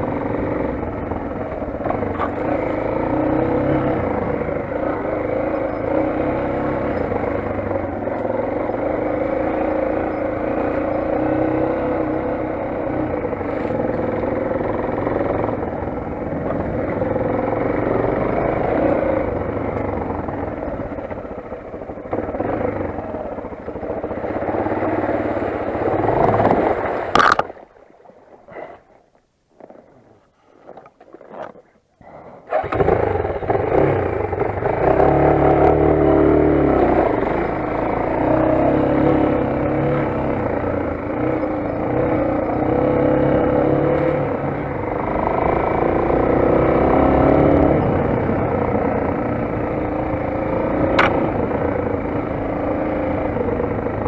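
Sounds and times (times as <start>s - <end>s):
motorcycle engine running: 0.0s - 27.5s, 32.4s - 54.0s.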